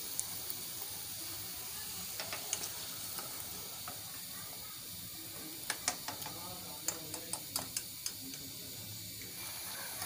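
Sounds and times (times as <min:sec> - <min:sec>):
food deep-frying in hot oil: 0:00.0 - 0:10.0.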